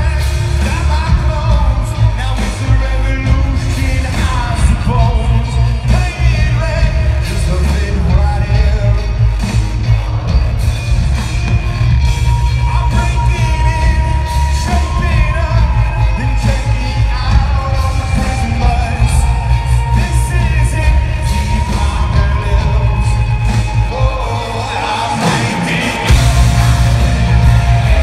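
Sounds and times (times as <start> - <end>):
live rock band: 0.0 - 28.0.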